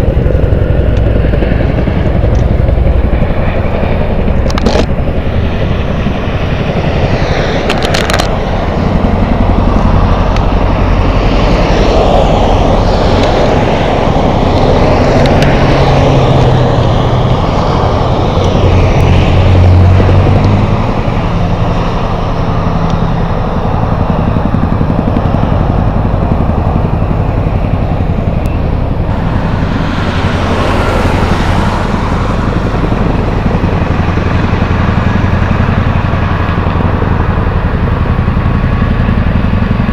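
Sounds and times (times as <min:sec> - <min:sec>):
helicopter rotors droning: 0:00.0 - 0:39.9.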